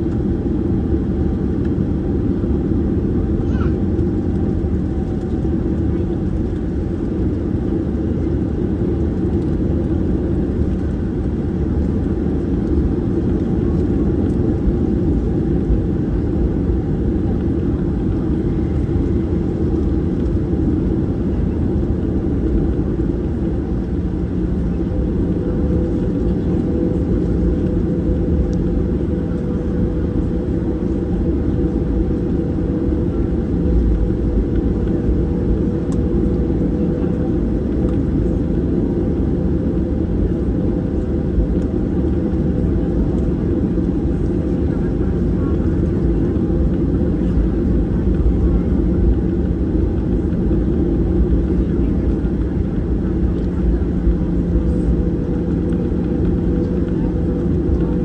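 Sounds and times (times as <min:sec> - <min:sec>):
jet engine rumble in cabin: 0:00.0 - 0:58.0.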